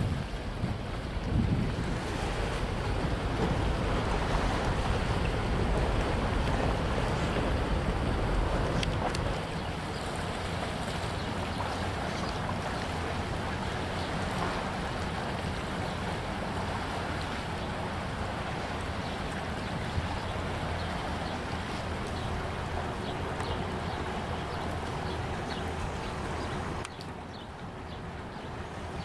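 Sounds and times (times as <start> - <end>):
wind buffeting microphone: 0.0 - 28.4
floodwater rushing and lapping: 0.0 - 29.0.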